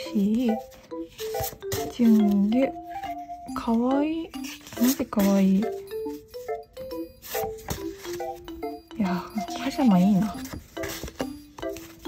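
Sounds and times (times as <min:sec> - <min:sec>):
light melody of short notes: 0:00.0 - 0:12.0.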